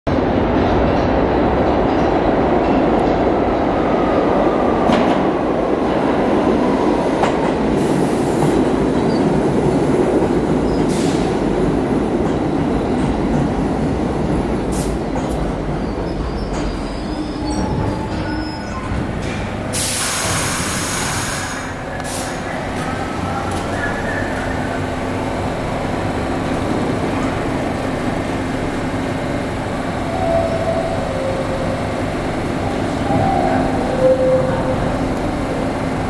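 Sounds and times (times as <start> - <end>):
subway train wheels rumbling on rails: 0.1 - 36.0.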